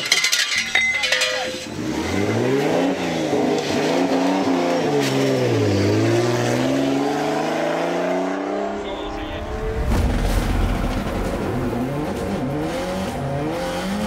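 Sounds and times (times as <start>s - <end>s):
car engine revving hard: 1.8s - 14.0s.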